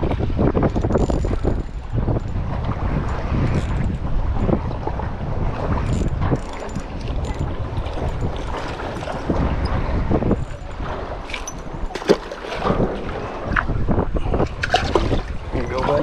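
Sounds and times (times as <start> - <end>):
small waves lapping at dock: 0.0 - 16.0
wind buffeting microphone: 0.0 - 16.0.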